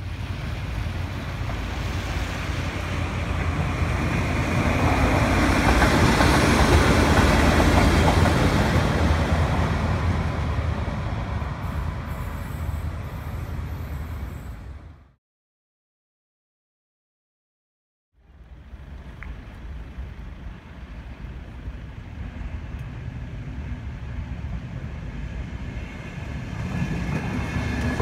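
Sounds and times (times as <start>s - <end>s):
low diesel locomotive rumble: 0.0s - 15.2s, 18.2s - 28.0s.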